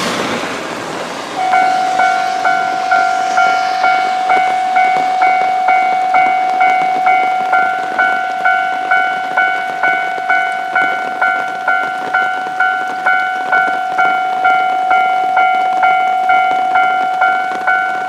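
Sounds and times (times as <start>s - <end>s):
level crossing alarm ringing: 1.4s - 18.0s.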